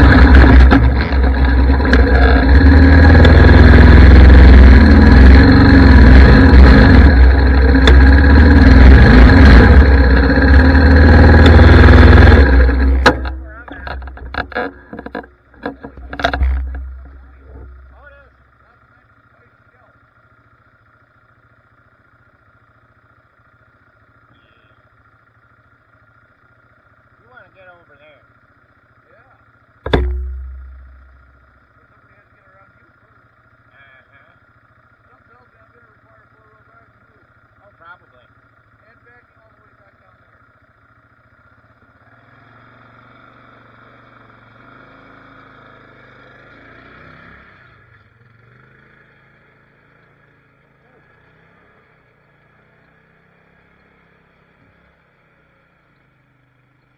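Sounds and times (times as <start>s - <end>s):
atv engine idling: 0.0s - 45.0s, 47.7s - 54.0s.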